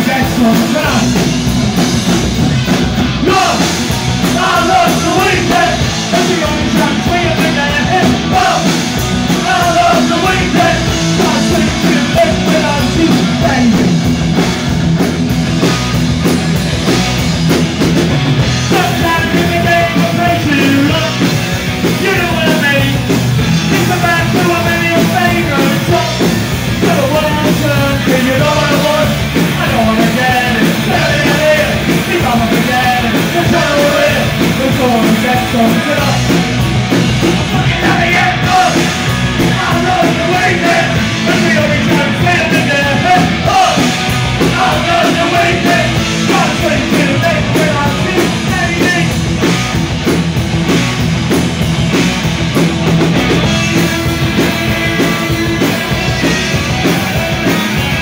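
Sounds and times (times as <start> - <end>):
man singing: 0.0 - 1.5, 3.1 - 14.1, 18.6 - 36.5, 37.2 - 49.2, 53.4 - 58.0
punk rock band playing: 0.0 - 58.0.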